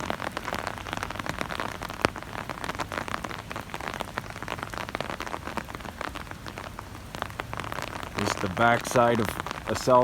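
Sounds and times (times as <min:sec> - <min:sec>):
rain drops striking a surface: 0:00.0 - 0:10.0.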